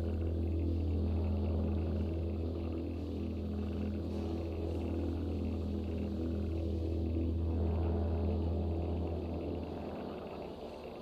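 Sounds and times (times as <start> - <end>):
faint steady tones: 0.0 - 11.0
steady low hum: 0.0 - 11.0.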